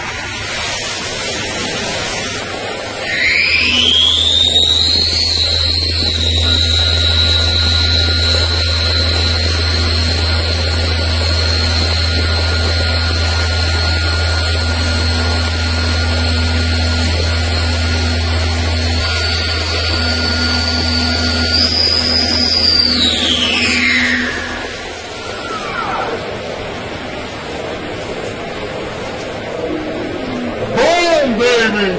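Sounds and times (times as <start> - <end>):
lathe spindle whine: 0.0 - 31.9
low machine hum: 0.0 - 31.9.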